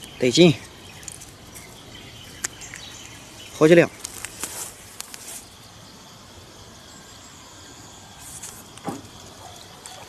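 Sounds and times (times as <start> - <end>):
faint high insect drone: 0.0 - 10.0
outdoor background hiss: 0.0 - 10.0.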